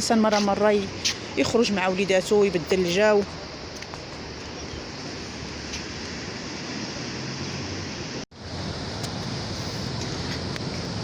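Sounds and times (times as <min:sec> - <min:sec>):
ocean surf washing: 0:00.0 - 0:11.0
wind on microphone: 0:00.0 - 0:11.0.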